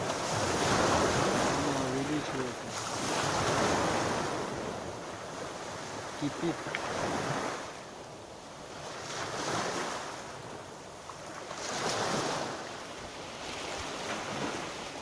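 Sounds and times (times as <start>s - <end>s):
surf washing onto shore: 0.0s - 15.0s.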